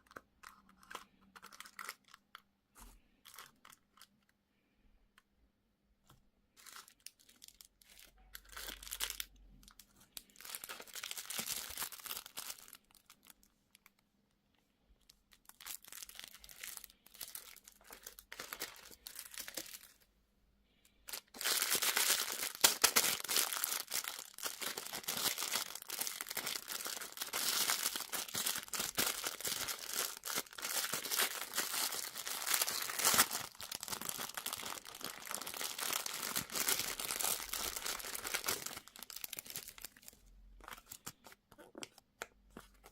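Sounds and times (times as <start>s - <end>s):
packaging crinkling and tearing: 0.0s - 2.4s, 6.6s - 13.4s, 15.4s - 20.0s, 21.1s - 42.0s.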